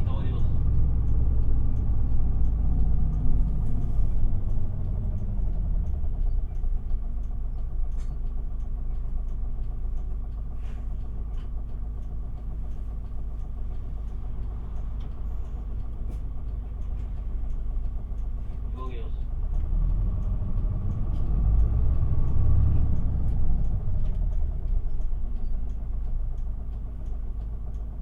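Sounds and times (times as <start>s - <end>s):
bus diesel engine from inside: 0.0s - 28.0s.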